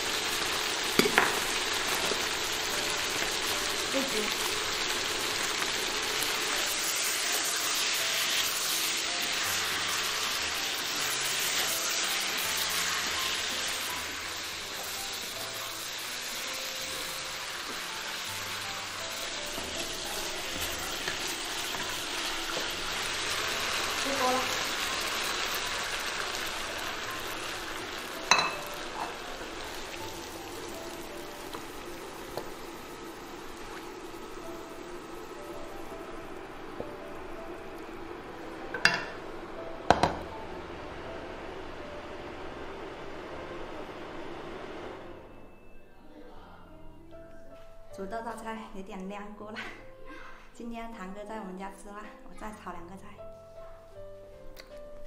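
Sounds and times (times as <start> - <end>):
food sizzling in a wok: 0.0 - 45.8.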